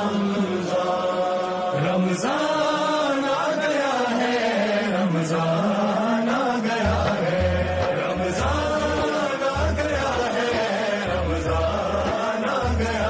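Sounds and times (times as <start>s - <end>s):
person singing a chant-like melody: 0.0s - 13.0s.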